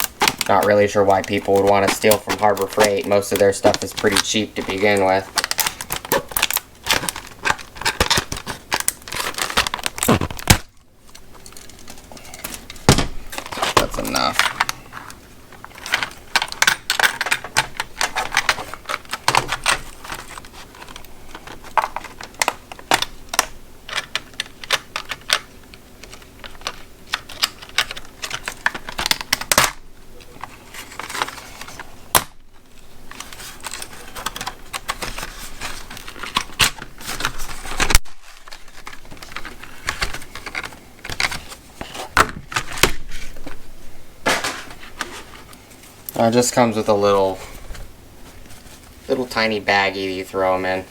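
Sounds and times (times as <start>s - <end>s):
plastic packaging clicking and crackling: 0.0s - 43.6s.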